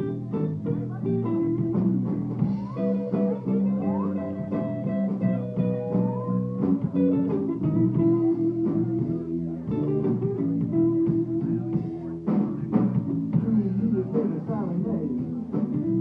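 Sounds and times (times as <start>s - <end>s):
bass guitar: 0.0s - 16.0s
electric guitar: 0.0s - 16.0s.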